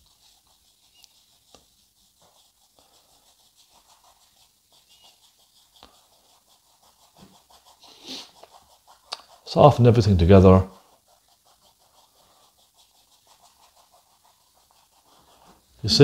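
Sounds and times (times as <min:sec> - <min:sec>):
paintbrush scrubbing on canvas: 0:00.0 - 0:16.0.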